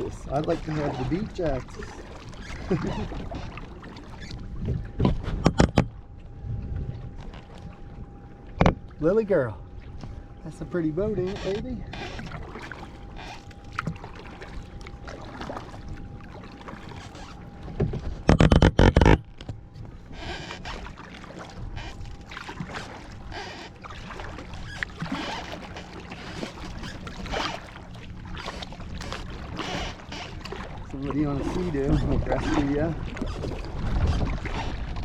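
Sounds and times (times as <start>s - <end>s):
paddle strokes in water: 0.0s - 35.0s.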